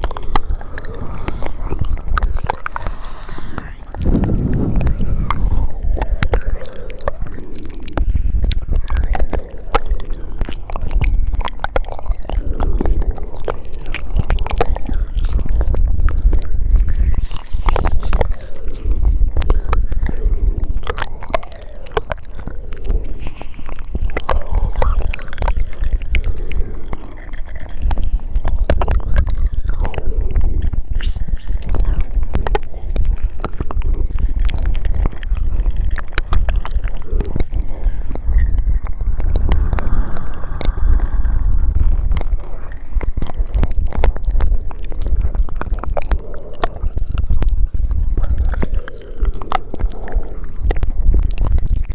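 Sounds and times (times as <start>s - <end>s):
low rumble: 0.0s - 51.9s
wet mouth clicks and smacks: 0.0s - 51.9s.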